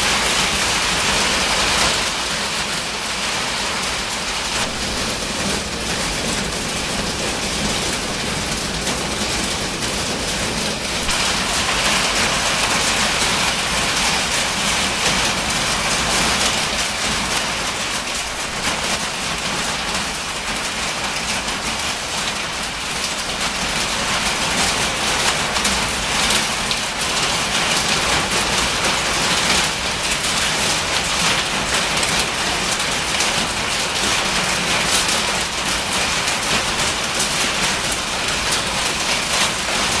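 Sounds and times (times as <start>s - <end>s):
hail pelting metal building: 0.0s - 40.0s.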